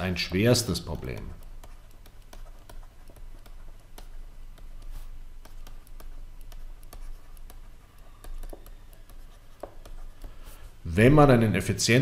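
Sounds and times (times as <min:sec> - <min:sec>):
steady low hum: 0:00.0 - 0:11.9
stylus tapping on tablet screen: 0:00.9 - 0:10.6.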